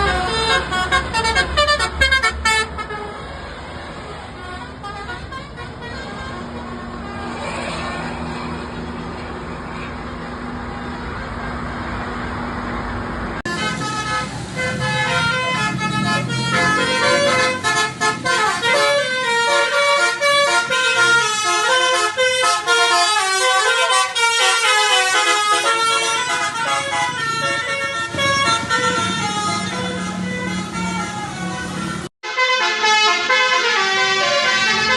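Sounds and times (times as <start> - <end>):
bus musical air horn: 0.0 - 9.2, 13.4 - 34.9
vehicle rumble: 0.0 - 32.1.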